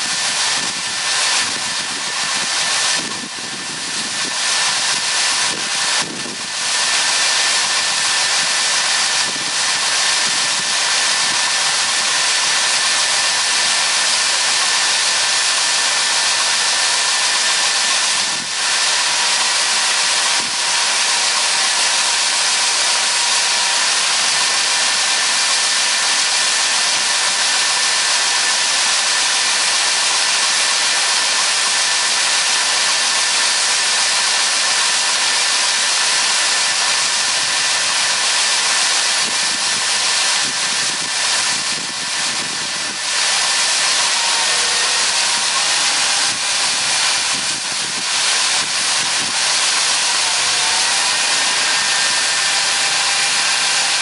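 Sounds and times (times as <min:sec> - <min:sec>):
faint machinery whine: 0:00.0 - 0:54.0
hiss of flowing beans: 0:00.0 - 0:54.0.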